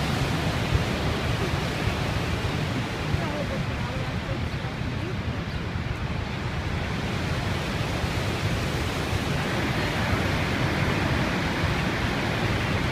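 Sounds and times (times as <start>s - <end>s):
waterfall roaring: 0.0s - 12.9s.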